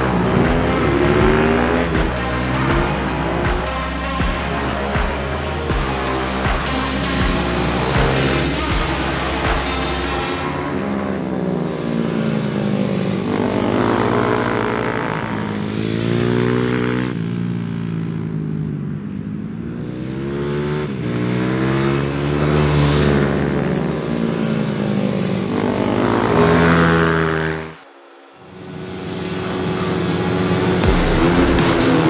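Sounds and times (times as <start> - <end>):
minibike engine revving: 0.0 - 27.8, 28.4 - 32.0.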